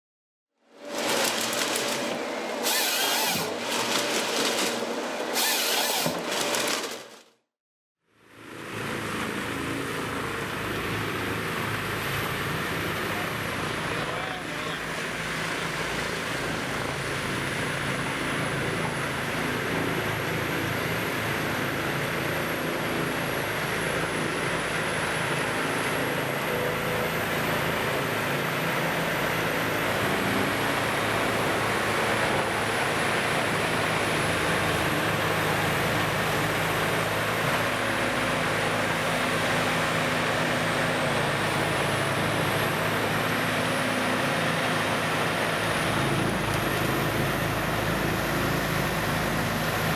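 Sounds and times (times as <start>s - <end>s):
grinder engine drone: 0.7s - 7.0s, 8.2s - 49.9s.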